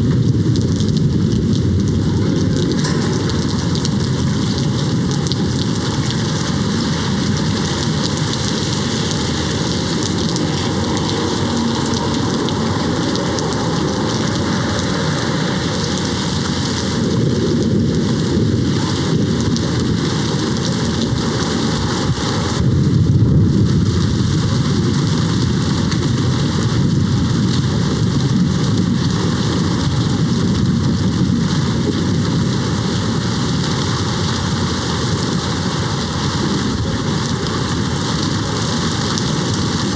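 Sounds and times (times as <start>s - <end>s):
heavy rain on a window: 0.0s - 39.9s
low roll of thunder: 0.0s - 39.9s.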